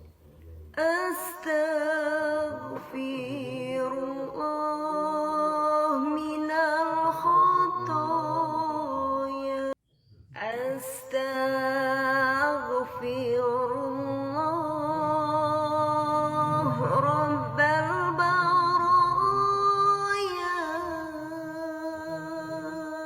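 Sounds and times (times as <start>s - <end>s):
person singing a slow chant: 0.3s - 23.0s.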